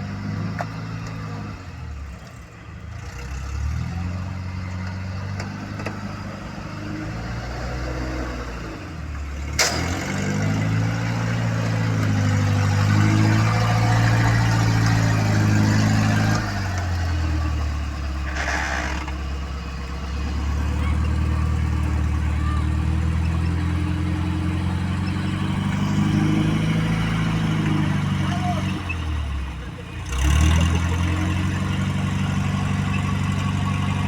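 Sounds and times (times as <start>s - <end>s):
vehicle engine revving: 2.9s - 34.0s.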